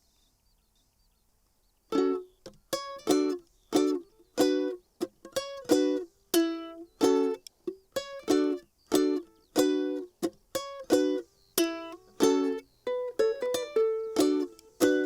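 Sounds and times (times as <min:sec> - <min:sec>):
ukulele strumming chords: 0:01.9 - 0:15.0.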